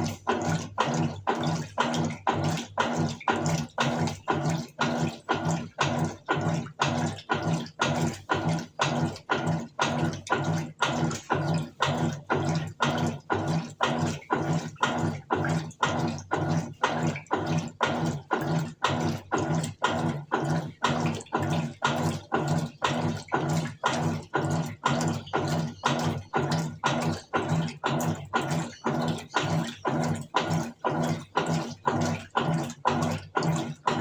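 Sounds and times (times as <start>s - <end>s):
washing machine agitating: 0.0s - 34.0s.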